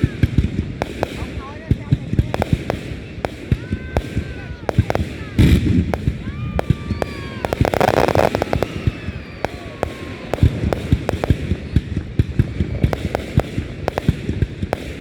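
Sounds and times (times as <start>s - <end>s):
fireworks bangs and pops: 0.0s - 15.0s
fireworks crackling burst: 0.0s - 15.0s.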